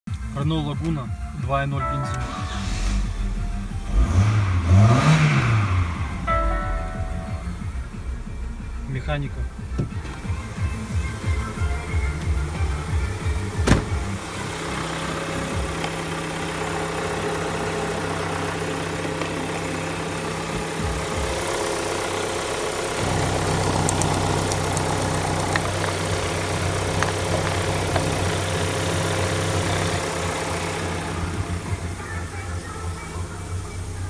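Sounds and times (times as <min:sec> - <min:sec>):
car engine idling: 0:00.1 - 0:34.0.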